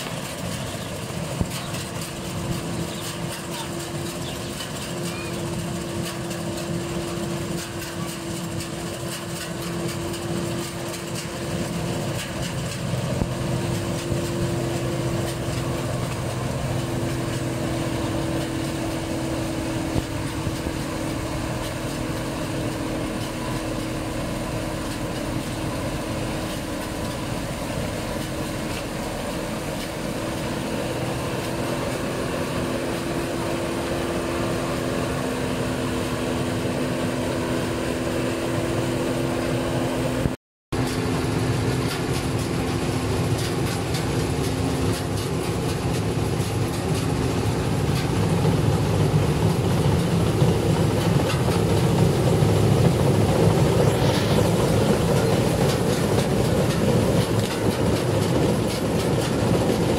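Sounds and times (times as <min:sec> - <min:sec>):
combine harvester humming and whining: 0:00.0 - 0:59.9.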